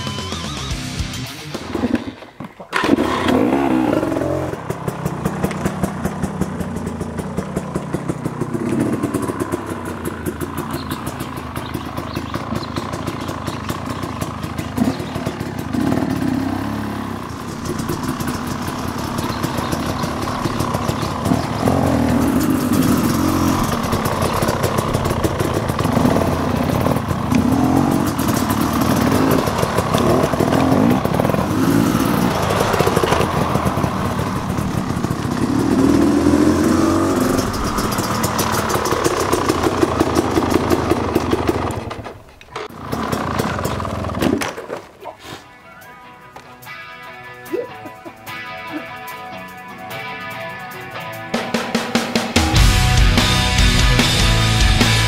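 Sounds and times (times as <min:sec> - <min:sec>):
dirt bike engine revving: 0:00.0 - 0:44.4, 0:51.6 - 0:55.0.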